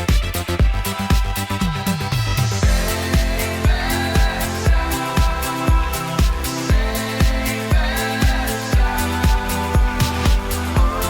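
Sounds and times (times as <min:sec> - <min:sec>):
electronic music kick-drum beat: 0:00.0 - 0:11.0
held synth chords: 0:01.6 - 0:11.0
rising synth sweep: 0:01.7 - 0:11.0.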